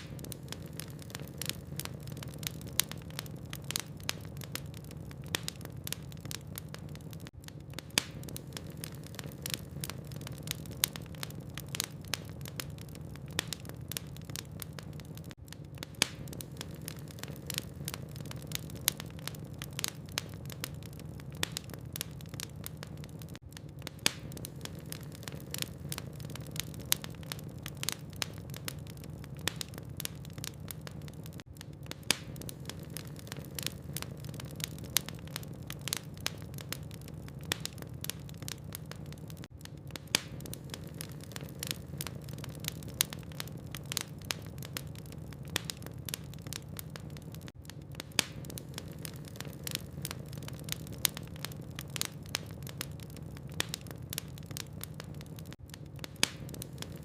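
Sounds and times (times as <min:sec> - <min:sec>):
logs crackling and popping: 0:00.0 - 0:57.0
low hum of fire: 0:00.0 - 0:57.0.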